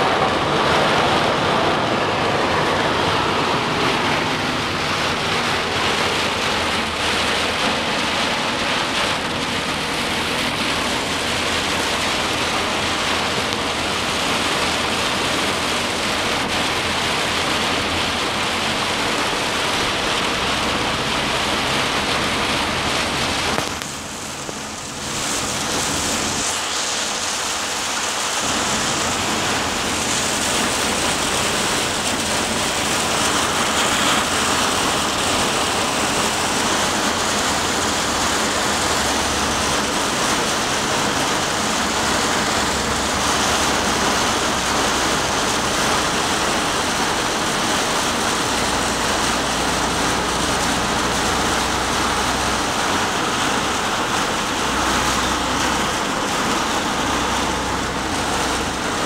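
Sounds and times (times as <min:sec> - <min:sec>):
heavy rain on vehicle roof: 0:00.0 - 0:59.0.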